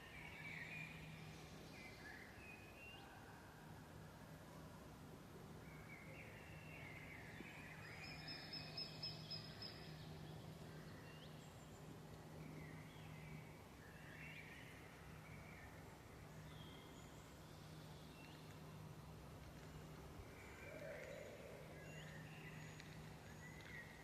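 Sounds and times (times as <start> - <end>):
birds chirping and warbling: 0.0 - 3.1, 5.6 - 18.9, 19.6 - 24.0
faint low hum: 0.0 - 24.0.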